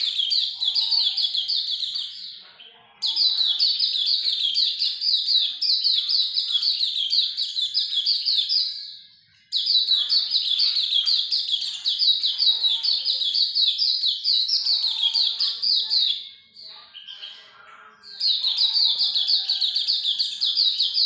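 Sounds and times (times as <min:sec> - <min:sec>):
bird chattering song: 0:00.0 - 0:21.0.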